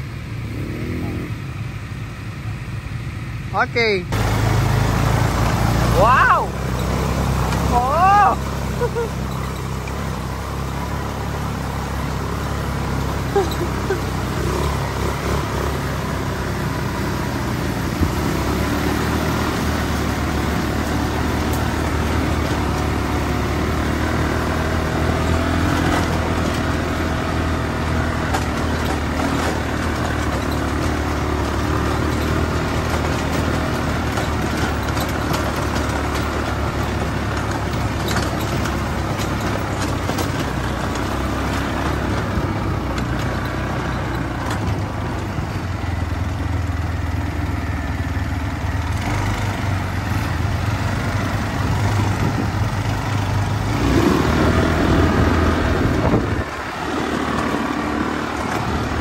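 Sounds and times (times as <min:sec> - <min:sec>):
quad bike engines droning: 0:00.0 - 0:59.0.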